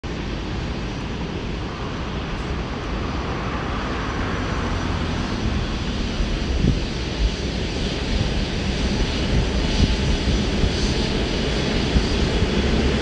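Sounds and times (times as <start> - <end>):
jet engines taxiing: 0.1 - 13.0.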